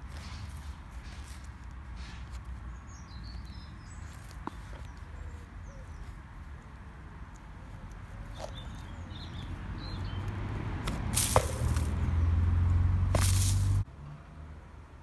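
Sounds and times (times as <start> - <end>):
shoes swishing across dry grass: 0.0 - 12.1, 13.1 - 13.8.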